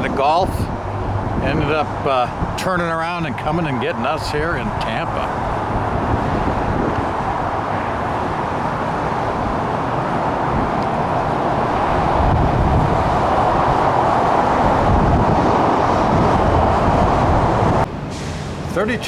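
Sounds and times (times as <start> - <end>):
rushing outdoor noise: 0.0 - 19.0
wind buffeting microphone: 0.0 - 19.0.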